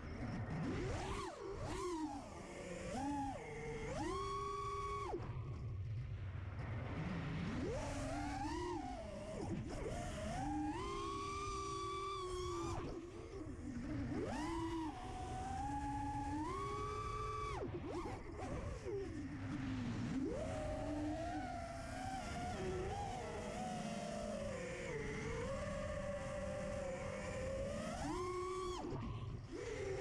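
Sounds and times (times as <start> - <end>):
quadcopter motors whining: 0.0 - 5.6, 7.6 - 30.0.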